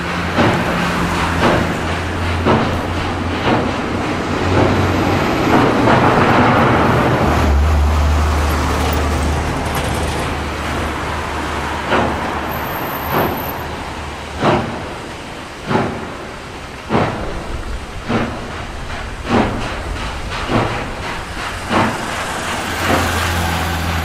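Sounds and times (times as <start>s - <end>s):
locomotive exhaust beats: 0.0s - 24.0s
steam locomotive rumble: 0.0s - 24.0s.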